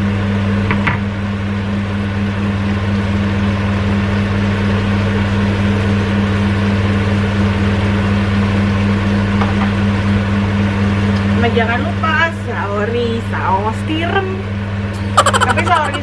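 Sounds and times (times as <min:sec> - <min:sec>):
range hood fan running: 0:00.0 - 0:16.0.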